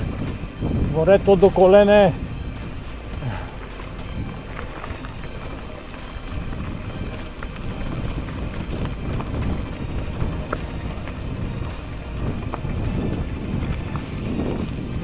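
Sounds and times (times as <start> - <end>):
stones or bike parts rattling: 0.0 - 15.0
tyres rumbling on gravel: 0.0 - 15.0
wind buffeting microphone: 0.0 - 15.0.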